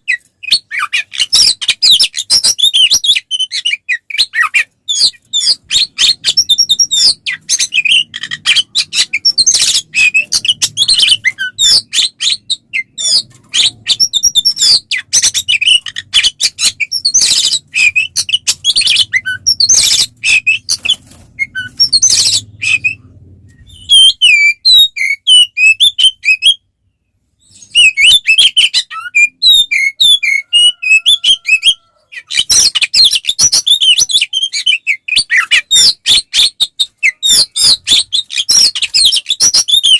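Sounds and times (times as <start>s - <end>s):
bird singing varied chirps: 0.0s - 39.9s.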